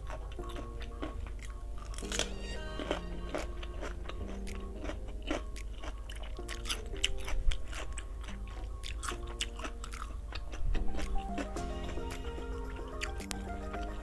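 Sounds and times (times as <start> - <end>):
person chewing crunchy food: 0.0 - 14.0
simple background tune: 0.0 - 14.0.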